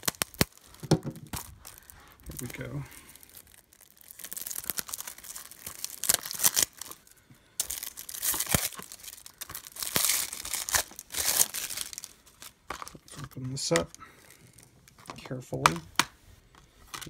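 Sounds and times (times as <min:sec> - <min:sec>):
plastic shrink wrap tearing: 0:00.0 - 0:16.1.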